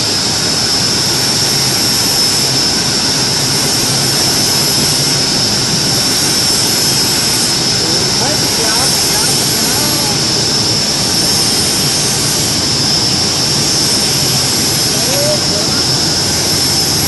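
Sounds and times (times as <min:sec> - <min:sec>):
high-pitched whine: 0:00.0 - 0:17.0
loud mechanical roar: 0:00.0 - 0:17.0.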